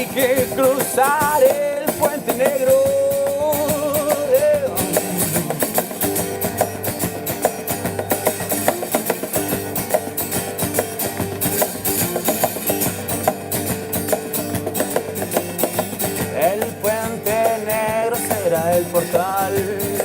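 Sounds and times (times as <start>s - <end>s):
guitar riff: 0.0s - 20.0s
steady percussion: 0.0s - 20.0s.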